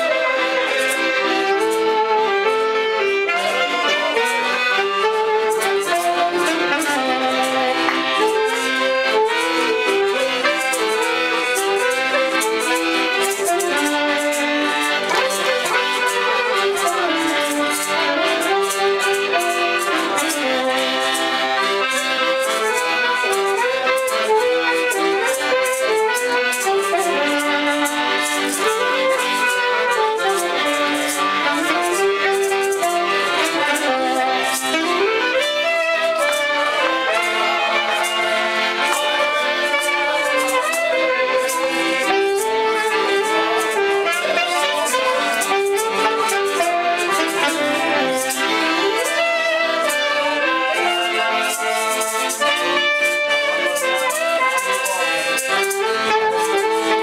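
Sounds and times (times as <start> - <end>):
alto saxophone: 0.0 - 57.0
piano accordion playing: 0.0 - 57.0
maracas shaking: 3.2 - 57.0.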